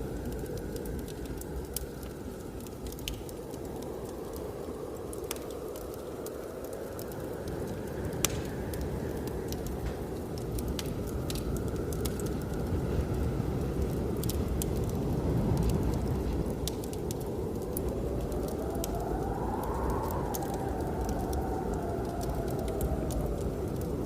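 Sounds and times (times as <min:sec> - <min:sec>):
blizzard wind rushing: 0:00.0 - 0:24.0
whistling wind gust: 0:00.0 - 0:24.0
wood fire crackling and popping: 0:00.0 - 0:24.0.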